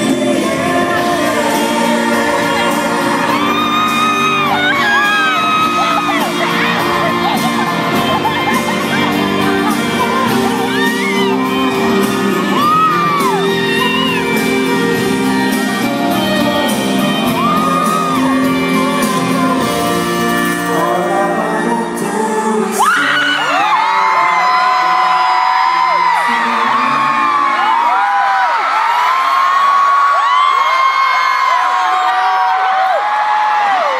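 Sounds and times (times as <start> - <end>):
fans screaming: 0.0 - 21.6, 22.6 - 33.9
man and woman singing duet: 0.0 - 28.3
pop ballad band music: 0.0 - 30.1.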